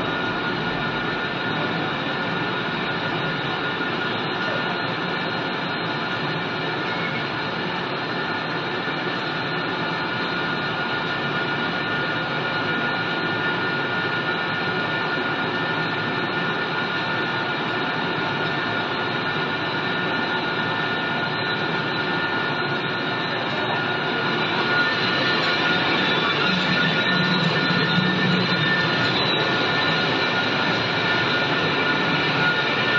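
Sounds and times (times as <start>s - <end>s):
machinery running with high whine: 0.0s - 32.9s.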